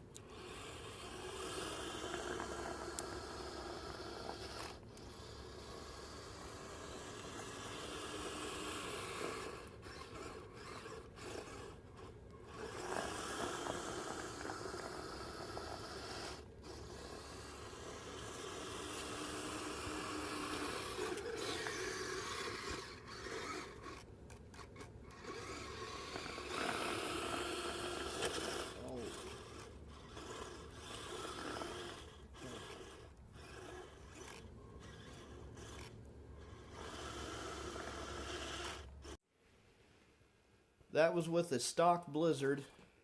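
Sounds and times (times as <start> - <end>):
electric motor humming: 0.0 - 39.2.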